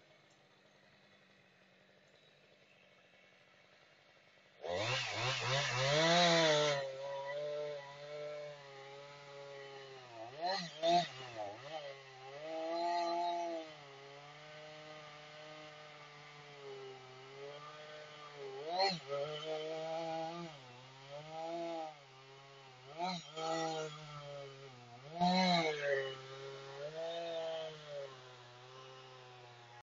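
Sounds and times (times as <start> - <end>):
chainsaw running: 0.0 - 29.8.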